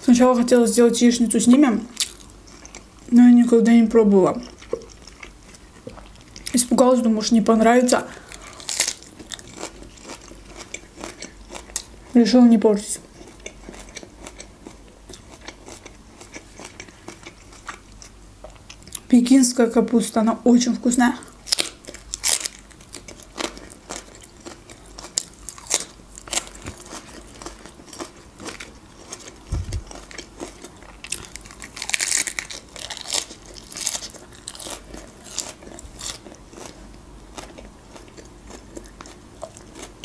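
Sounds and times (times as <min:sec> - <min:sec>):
chewing crunchy cabbage: 0:01.2 - 0:03.2, 0:04.3 - 0:06.8, 0:07.9 - 0:12.2, 0:13.0 - 0:19.1, 0:21.2 - 0:40.0.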